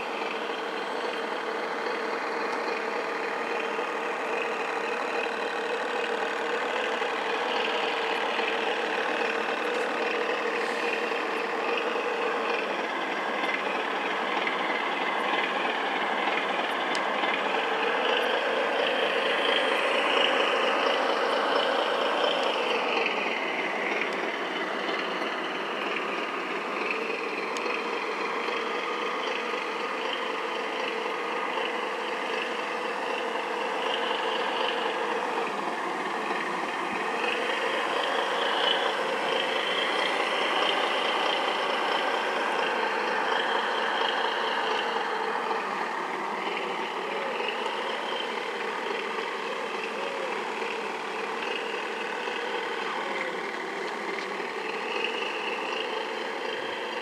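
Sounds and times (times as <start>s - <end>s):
model boat motors droning: 0.0s - 57.0s.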